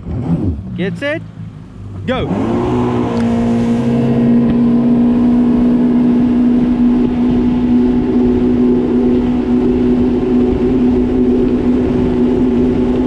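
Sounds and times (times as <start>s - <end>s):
personal watercraft engine running: 0.0s - 13.0s
rush of wind and water: 0.0s - 13.0s.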